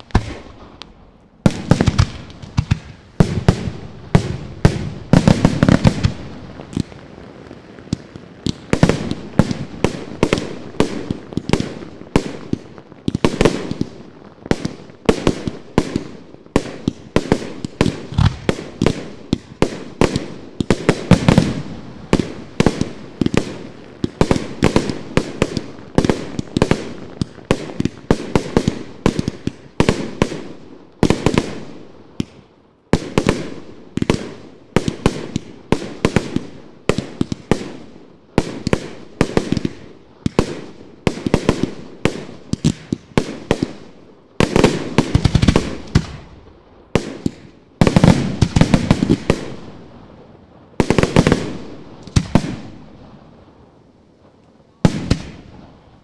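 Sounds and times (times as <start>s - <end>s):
fireworks bursting with sharp bangs: 0.0s - 56.0s.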